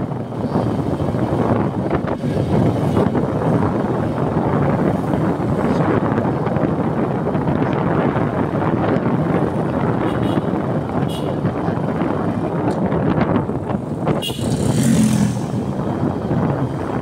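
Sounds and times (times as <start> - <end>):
vehicle running and road noise: 0.0 - 17.0
wind buffeting microphone: 0.0 - 17.0.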